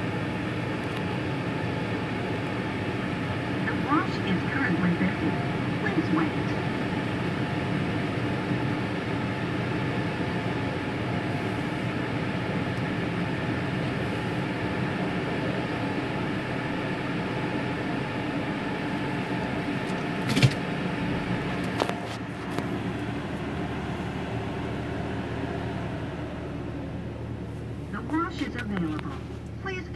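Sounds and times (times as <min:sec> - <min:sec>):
car wash blower dryers: 0:00.0 - 0:29.6.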